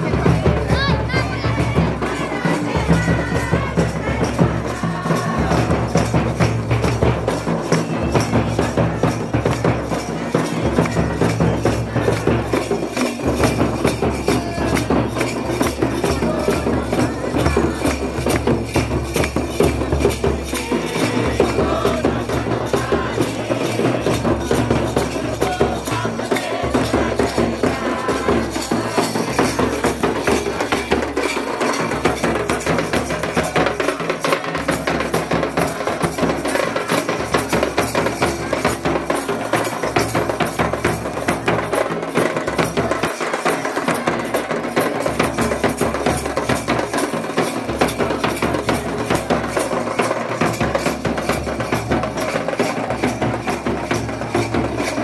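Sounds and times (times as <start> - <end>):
hand drums: 0.0 - 55.0
jingling percussion: 0.0 - 55.0
kettle drum beaten with sticks: 0.0 - 55.0.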